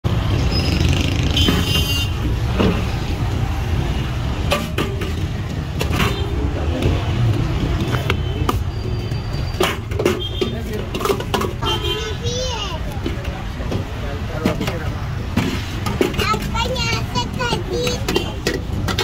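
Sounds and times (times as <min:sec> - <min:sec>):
low rumble of passing vehicles: 0:00.0 - 0:19.0.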